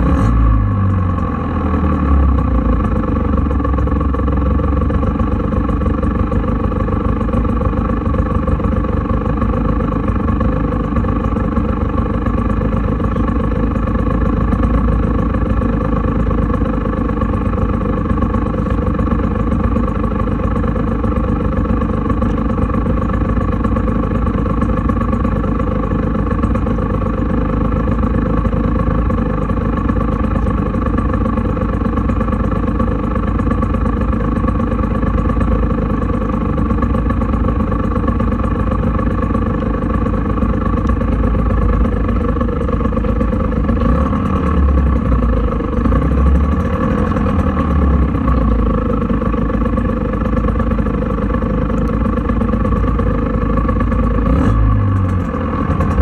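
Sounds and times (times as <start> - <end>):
scooter engine idling: 0.0 - 56.0.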